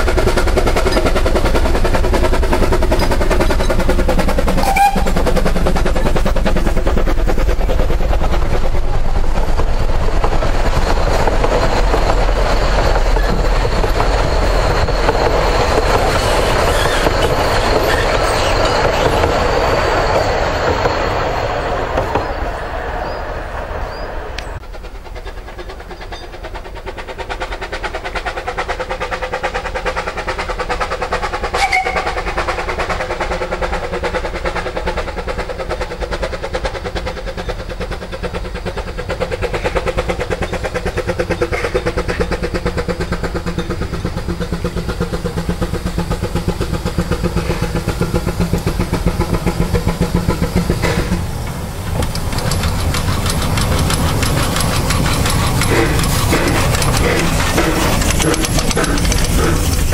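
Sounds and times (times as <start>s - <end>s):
steam locomotive exhaust beat: 0.0s - 59.9s.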